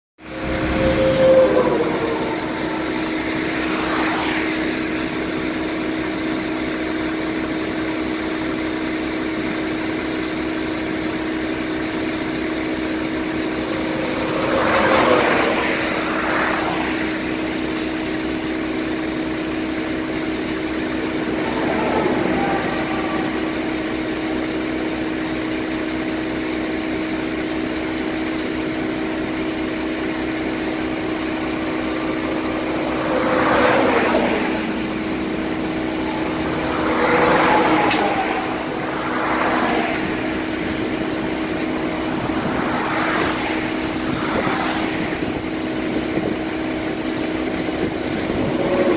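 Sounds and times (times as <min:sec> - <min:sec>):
street sweeper engine humming: 0:00.2 - 0:48.9
vehicles passing: 0:00.2 - 0:48.9.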